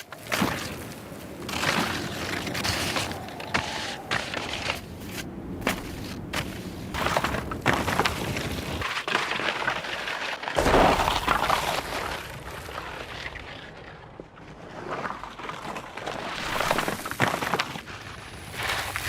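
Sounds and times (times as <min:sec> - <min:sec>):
skis scraping over rocky ground: 0:00.0 - 0:19.0.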